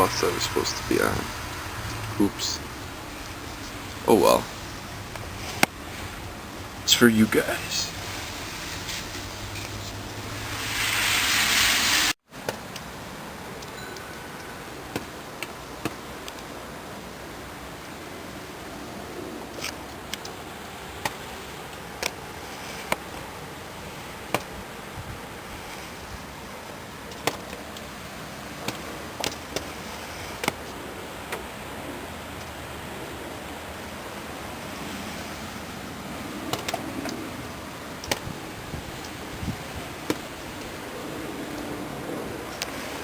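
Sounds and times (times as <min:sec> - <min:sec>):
wet snowfall hiss: 0:00.0 - 0:43.0.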